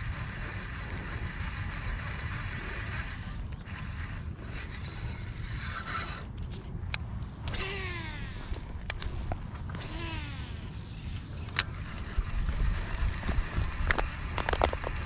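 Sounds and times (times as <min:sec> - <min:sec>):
fishing reel spool whirring: 0:00.0 - 0:15.0
wind rumbling on microphone: 0:00.0 - 0:15.0
fishing reel clicks: 0:00.1 - 0:13.0.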